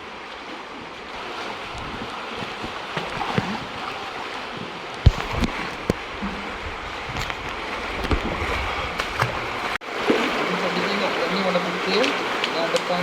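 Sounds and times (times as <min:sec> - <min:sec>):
running water in a cave: 0:00.0 - 0:13.0.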